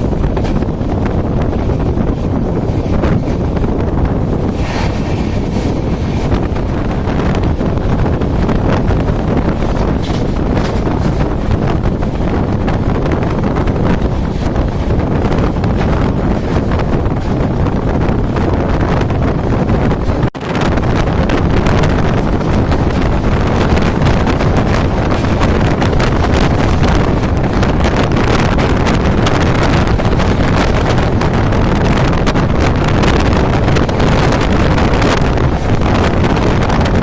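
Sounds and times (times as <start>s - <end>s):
express train running: 0.0s - 37.0s
wind buffeting microphone: 0.0s - 37.0s.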